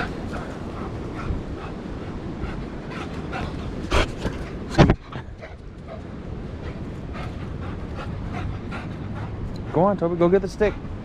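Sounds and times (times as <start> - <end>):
dog panting: 0.0 - 11.0
wind on microphone: 0.0 - 11.0.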